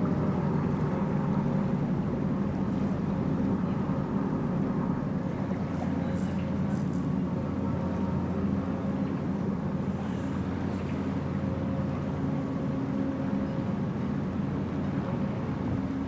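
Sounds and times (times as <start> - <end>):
ship engine hum: 0.0 - 16.0.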